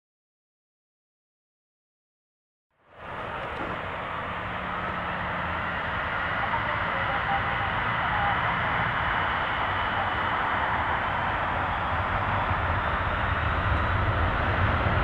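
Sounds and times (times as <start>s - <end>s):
distant jet engines running: 2.8s - 15.0s.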